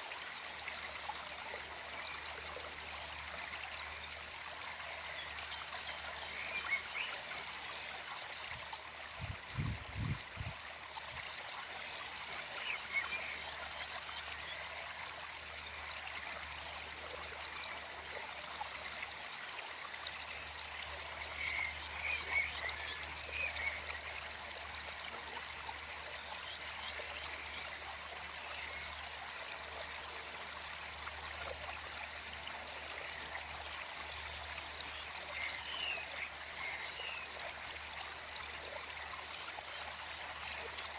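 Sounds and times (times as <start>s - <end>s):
forest stream flowing: 0.0s - 40.9s.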